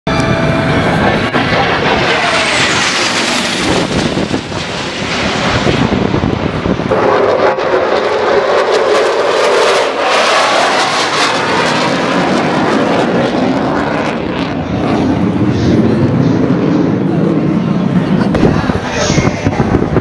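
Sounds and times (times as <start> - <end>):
aircraft engine flying past: 0.1 - 20.0.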